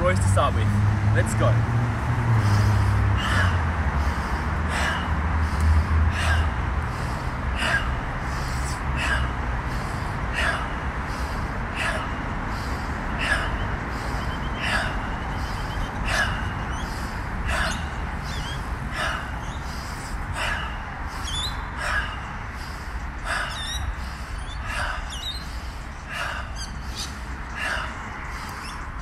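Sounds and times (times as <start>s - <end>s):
forceful whooshing exhales: 0.8s - 29.0s.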